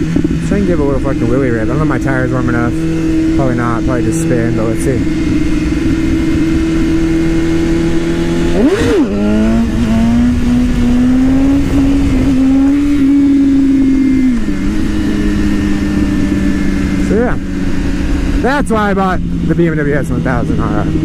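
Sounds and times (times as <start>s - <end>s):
motorcycle engine revving: 0.0s - 21.0s
wind rushing over microphone: 0.0s - 21.0s.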